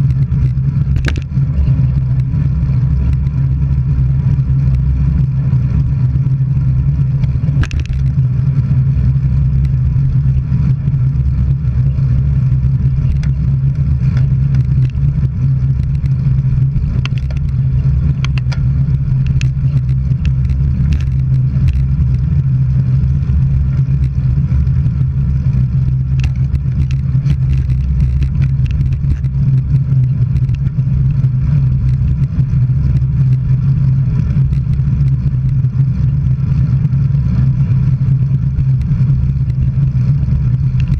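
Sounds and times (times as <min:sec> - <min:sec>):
road and wind rumble: 0:00.0 - 0:40.9.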